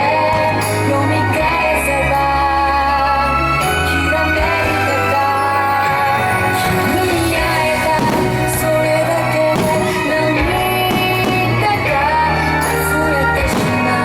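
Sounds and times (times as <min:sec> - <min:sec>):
pop song: 0:00.0 - 0:14.0.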